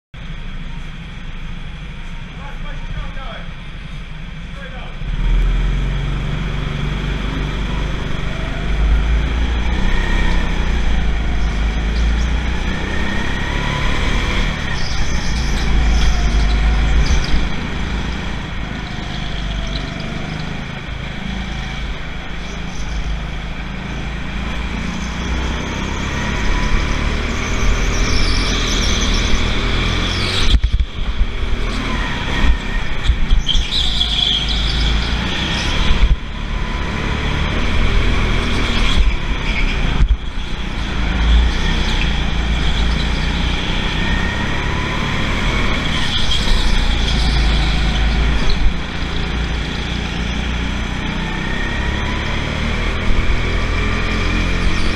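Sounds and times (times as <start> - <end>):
go-kart engine rumble: 0.1 - 54.9.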